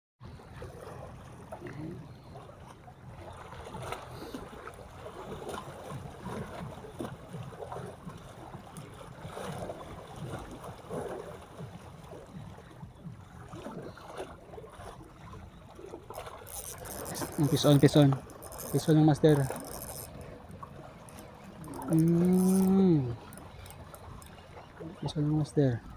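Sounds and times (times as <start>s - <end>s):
small waves lapping against rocks: 0.3s - 25.9s.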